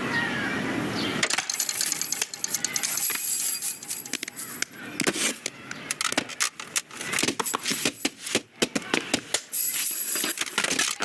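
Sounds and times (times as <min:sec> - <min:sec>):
small hard objects clicking together: 0:01.2 - 0:11.0.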